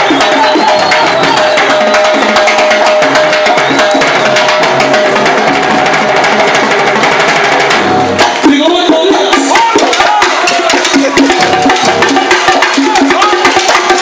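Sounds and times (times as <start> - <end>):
latin hand drums and timbales: 0.0 - 14.0
salsa band playing: 0.0 - 14.0.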